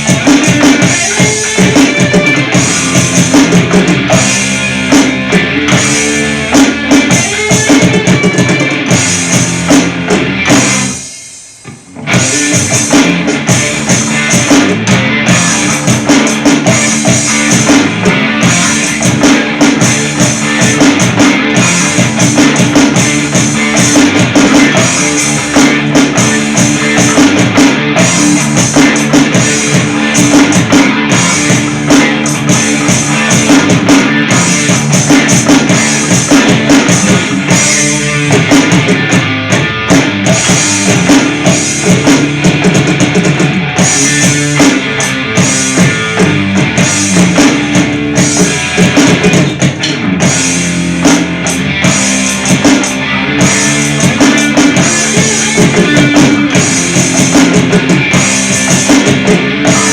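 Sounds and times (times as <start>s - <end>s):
loud rock music: 0.0s - 59.9s.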